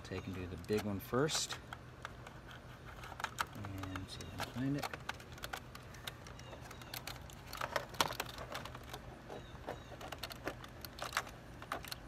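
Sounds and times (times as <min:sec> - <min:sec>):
plastic connectors clicking and rattling: 0:00.0 - 0:12.0.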